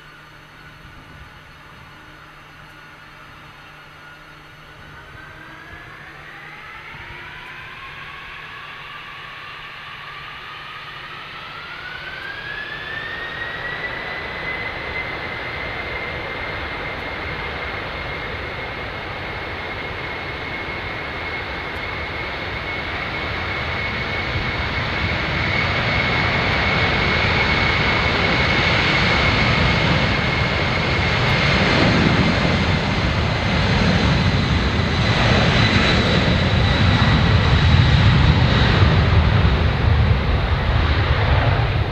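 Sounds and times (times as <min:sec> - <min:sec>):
aircraft rumble: 0:00.0 - 0:41.9
jet engines whining: 0:00.0 - 0:41.9.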